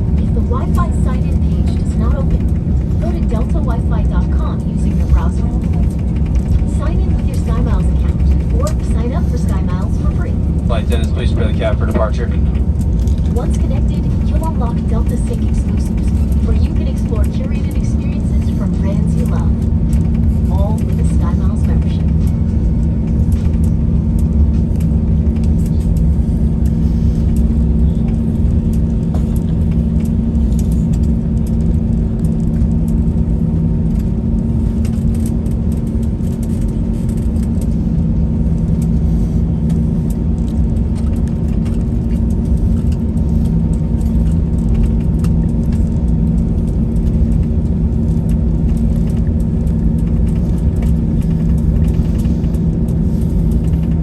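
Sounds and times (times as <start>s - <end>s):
jet engines humming in cabin: 0.0s - 54.0s.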